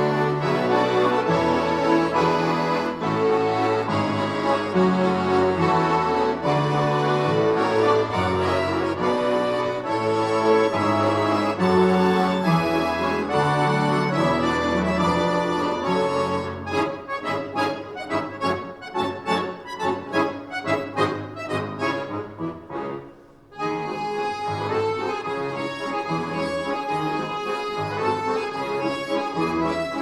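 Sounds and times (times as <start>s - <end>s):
accordion orchestra playing: 0.0s - 30.0s.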